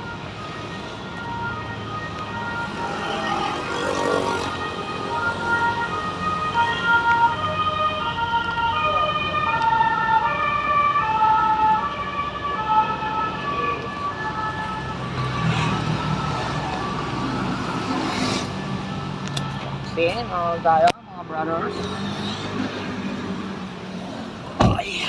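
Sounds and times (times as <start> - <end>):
low traffic rumble: 0.0 - 25.0.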